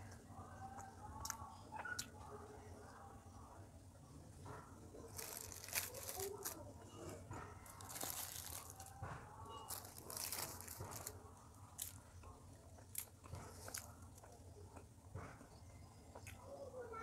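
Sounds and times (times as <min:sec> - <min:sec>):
crunchy chewing: 0:00.0 - 0:02.4, 0:04.4 - 0:16.5.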